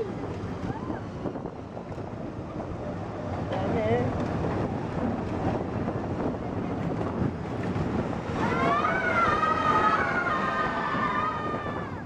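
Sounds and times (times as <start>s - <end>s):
ride train rumbling: 0.0s - 12.0s
wind noise: 0.0s - 12.0s.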